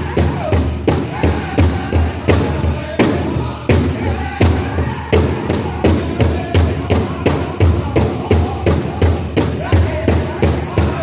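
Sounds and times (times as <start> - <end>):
large hand drum beating: 0.0 - 11.0
singers singing: 0.0 - 11.0.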